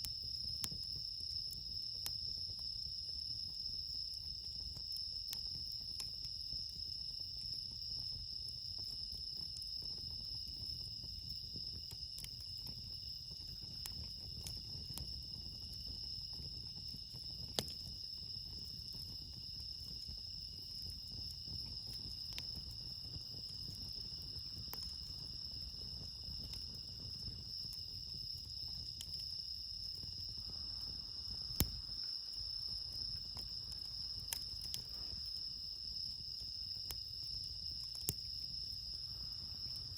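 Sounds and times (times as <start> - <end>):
campfire popping: 0.0 - 39.9
crickets chirping: 0.0 - 39.9.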